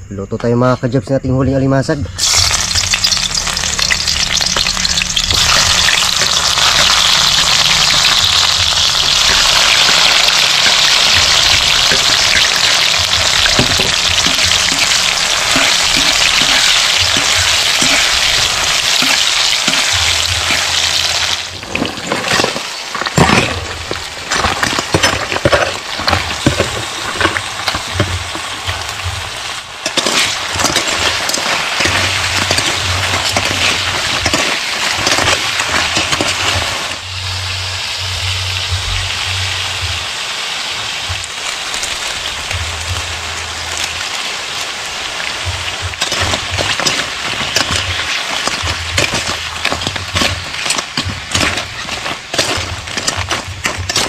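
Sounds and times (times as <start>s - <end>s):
vegetables sizzling in hot oil: 2.1s - 54.0s
crabs clattering and scraping in wok: 2.2s - 37.7s, 38.5s - 54.0s.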